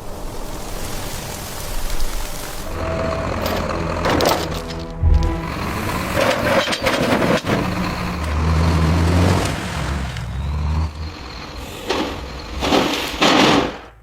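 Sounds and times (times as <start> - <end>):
heavy vehicle engine droning: 2.5 - 14.0.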